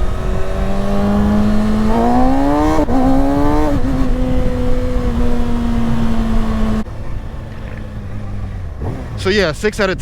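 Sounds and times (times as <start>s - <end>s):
wind rumbling on microphone: 0.0s - 8.5s
motorcycle engine revving: 0.0s - 9.5s.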